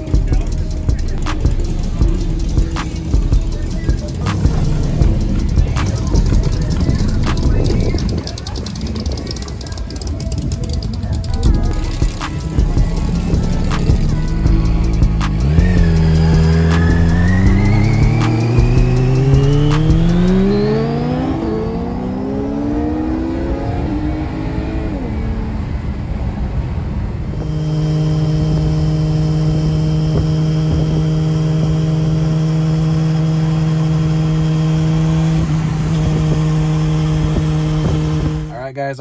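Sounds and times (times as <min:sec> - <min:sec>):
motorcycle engine accelerating: 0:00.0 - 0:38.6
steady drone: 0:00.0 - 0:38.7.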